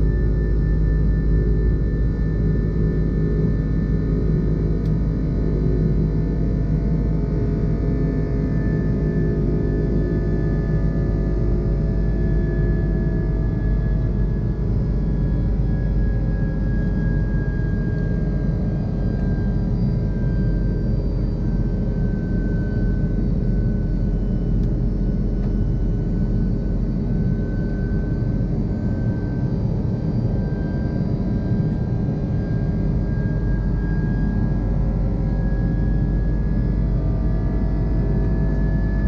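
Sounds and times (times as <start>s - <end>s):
jet engine and airflow rumble: 0.0s - 39.0s
thin wavering whine: 0.0s - 39.0s.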